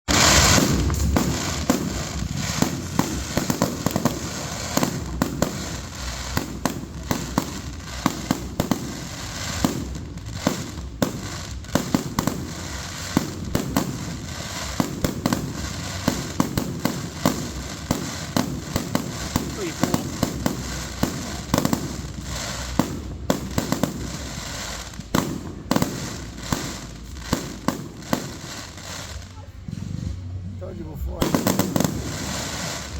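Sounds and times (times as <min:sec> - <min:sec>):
fireworks bangs and crackles: 0:00.1 - 0:32.9
low rumble of reports: 0:00.9 - 0:32.9.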